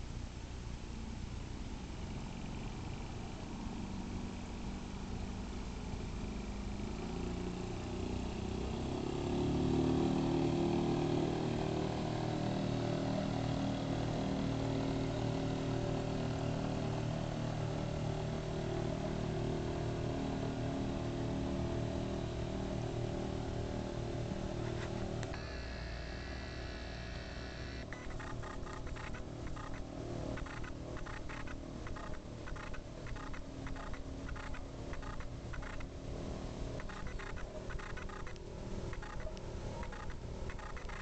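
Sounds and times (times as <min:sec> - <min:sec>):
outboard motor droning: 0:00.9 - 0:41.0.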